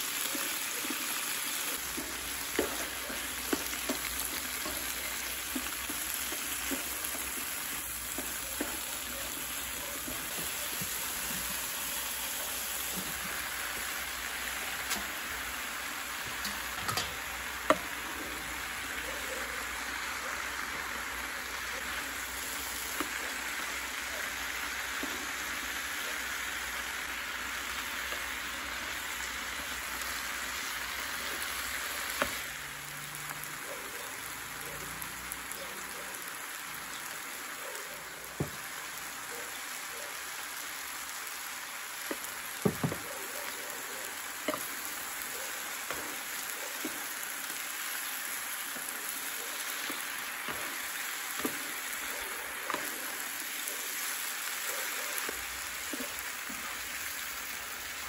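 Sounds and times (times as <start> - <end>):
noodles frying hiss: 0.0 - 58.0.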